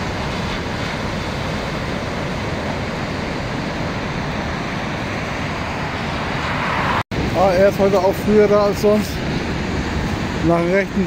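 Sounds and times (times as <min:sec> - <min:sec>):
sea surf breaking on sand: 0:00.0 - 0:11.0.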